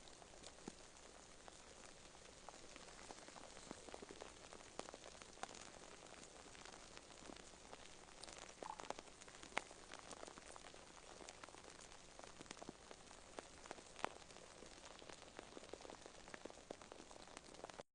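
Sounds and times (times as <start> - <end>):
small clicks and crackles: 0.0 - 17.8.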